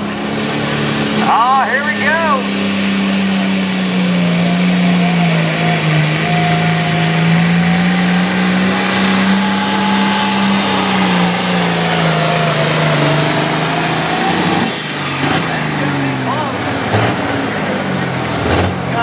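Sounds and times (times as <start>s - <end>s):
high engine whine: 0.0s - 19.0s
tractor diesel engine under load: 0.0s - 19.0s.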